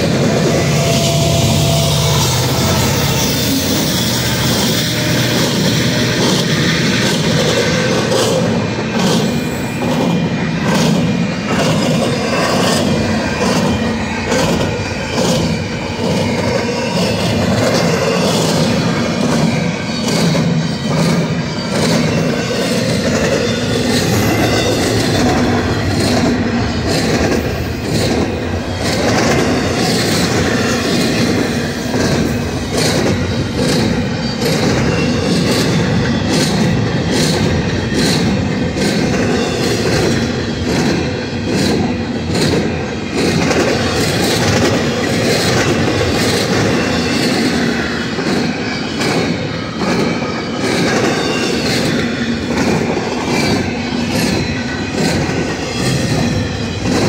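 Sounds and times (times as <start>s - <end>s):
freight train wheels rumbling: 0.0s - 57.0s
train wheels clicking and clanking: 0.0s - 57.0s.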